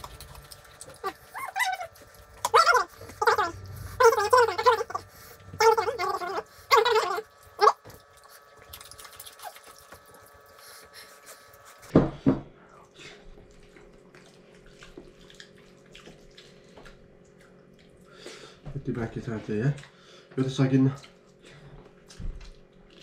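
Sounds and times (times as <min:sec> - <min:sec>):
wet chewing: 0:00.0 - 0:11.9, 0:13.4 - 0:18.4, 0:21.0 - 0:23.0.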